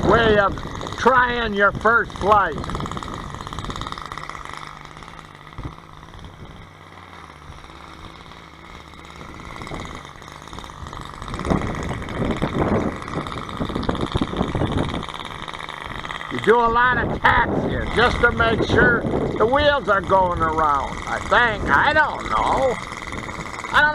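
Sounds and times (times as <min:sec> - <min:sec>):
model aircraft engine: 0:00.0 - 0:23.9.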